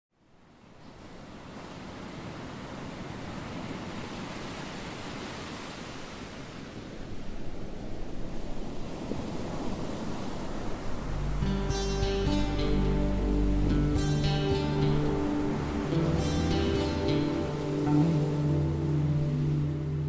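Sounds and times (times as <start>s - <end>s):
ocean waves breaking: 0.7s - 20.0s.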